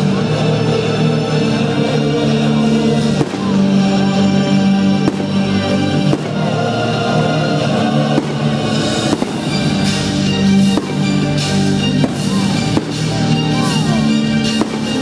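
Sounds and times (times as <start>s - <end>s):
fireworks bangs: 1.4s - 15.0s.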